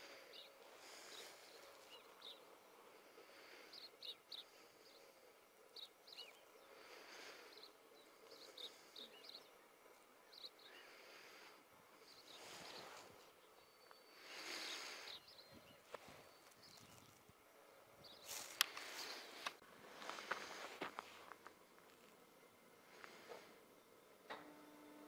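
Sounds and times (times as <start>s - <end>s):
distant birds calling: 0.0s - 25.0s.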